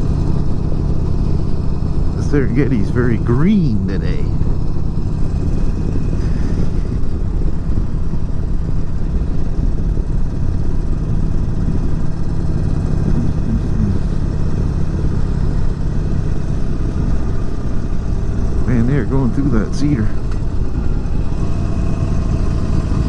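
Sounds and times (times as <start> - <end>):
motorcycle engine cruising: 0.0 - 23.0
rushing wind: 0.0 - 23.0.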